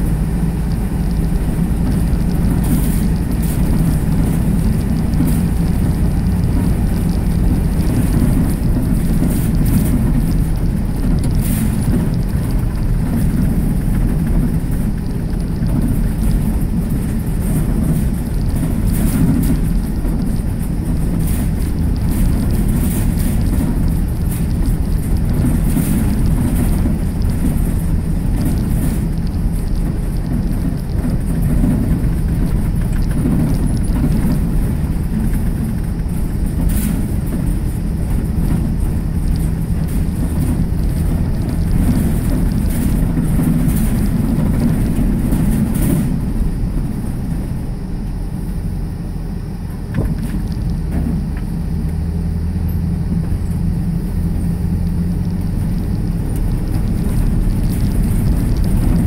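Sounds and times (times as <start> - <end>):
car driving rumble from inside: 0.0 - 59.0.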